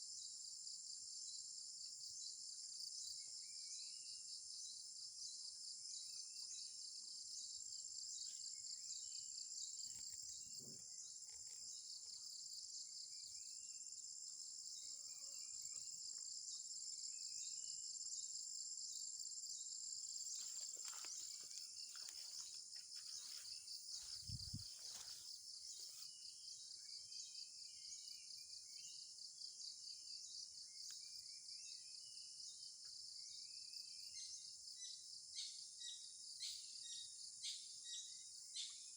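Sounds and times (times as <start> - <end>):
insects trilling: 6.0 - 38.9.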